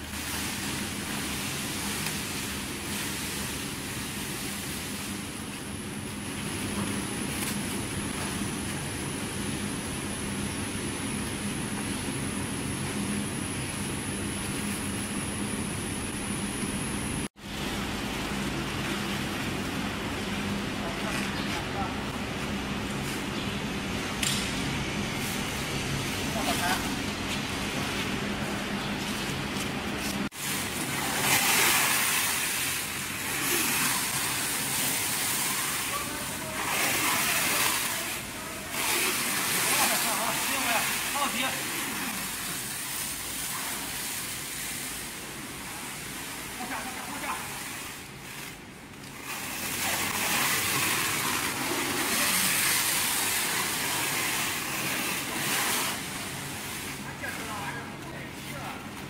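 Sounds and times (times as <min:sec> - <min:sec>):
factory low hum: 0:00.0 - 0:59.0.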